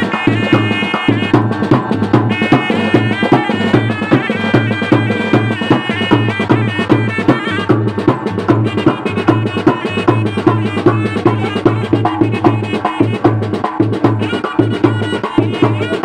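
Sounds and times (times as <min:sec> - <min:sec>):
drums beating fast: 0:00.0 - 0:16.0
reedy wind instrument melody: 0:00.0 - 0:16.0.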